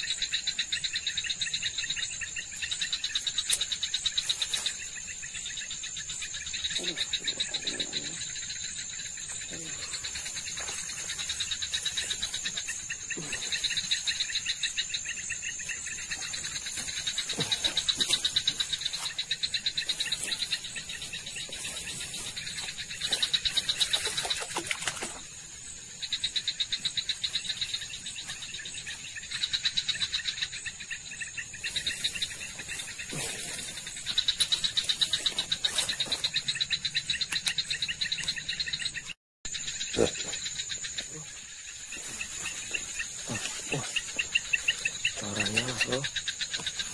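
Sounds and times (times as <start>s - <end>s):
frogs pulsed calling: 0.0s - 46.9s
insects trilling: 0.0s - 46.9s.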